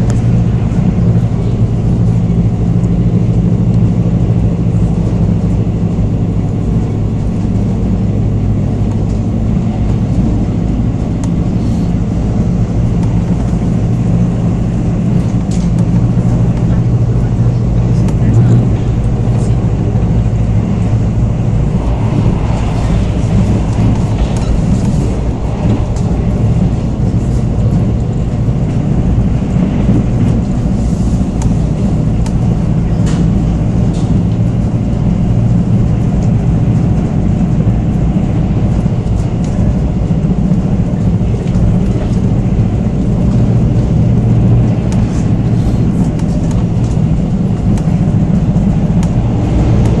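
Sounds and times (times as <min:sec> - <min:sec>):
passenger train rumbling: 0:00.0 - 0:50.0.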